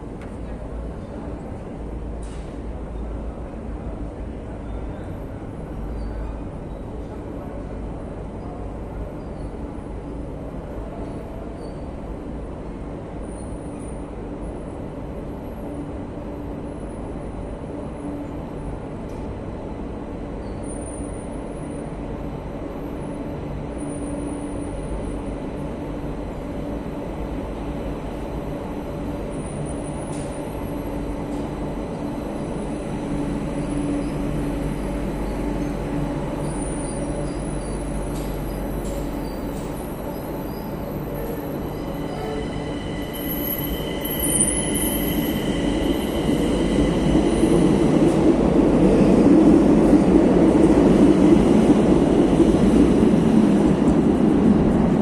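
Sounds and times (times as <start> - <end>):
metro train rumbling: 0.0 - 55.0.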